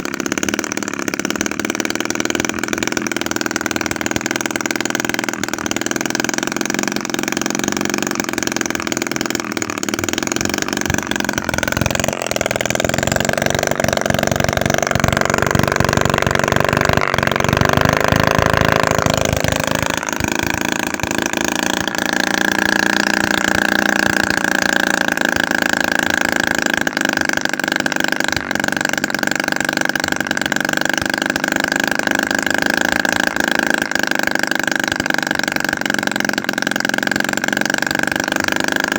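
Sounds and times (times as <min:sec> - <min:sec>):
small two-stroke engine running: 0:00.0 - 0:38.9.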